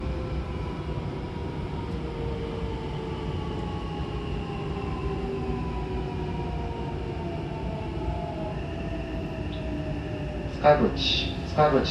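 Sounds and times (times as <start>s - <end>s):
electric train rumbling: 0.0s - 11.9s.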